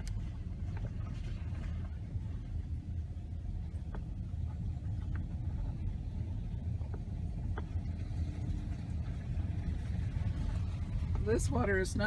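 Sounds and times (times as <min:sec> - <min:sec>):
car rumbling over gravel road: 0:00.0 - 0:12.0.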